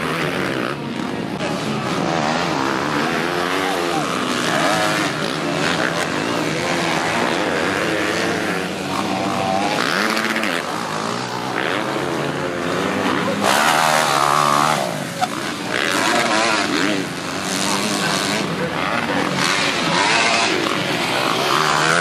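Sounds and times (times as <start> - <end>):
motocross bike engines revving: 0.0 - 22.0.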